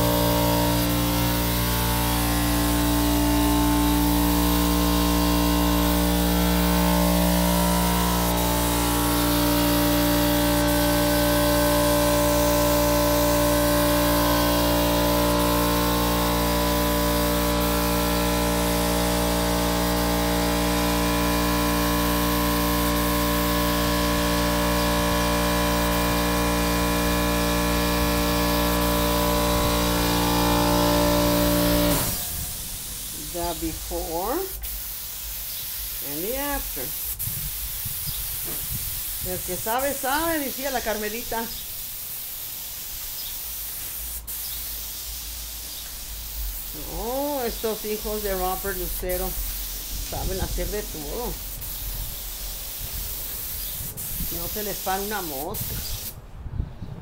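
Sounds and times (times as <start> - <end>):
air compressor running: 0.0 - 40.5, 41.4 - 56.2
paint spray gun hissing: 0.0 - 56.2.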